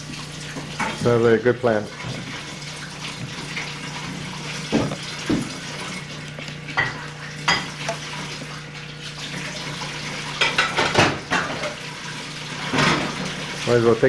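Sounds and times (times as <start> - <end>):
water in sink: 0.0 - 14.0.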